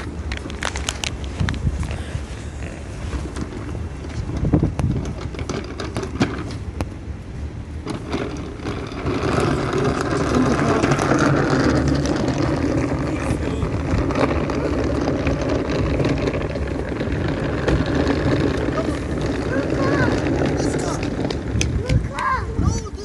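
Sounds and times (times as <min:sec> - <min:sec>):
plastic wheels rattling over tarmac: 0:00.0 - 0:23.0.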